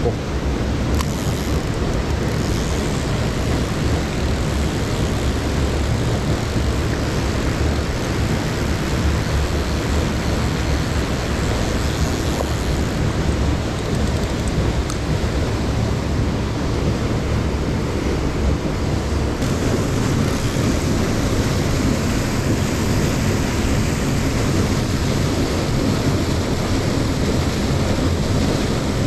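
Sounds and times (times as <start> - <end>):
waterfall rushing roar: 0.0 - 29.0.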